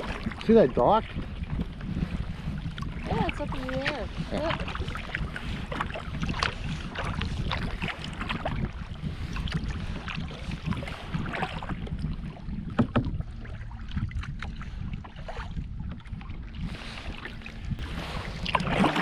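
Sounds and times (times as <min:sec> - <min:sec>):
paddle splashing water: 0:00.0 - 0:19.0
wind on microphone: 0:00.0 - 0:19.0.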